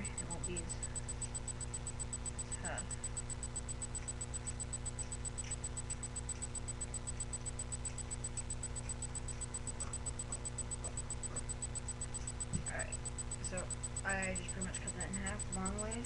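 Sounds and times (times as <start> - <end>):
fast high-pitched ticking: 0.0 - 16.0
low electrical hum: 0.0 - 16.0.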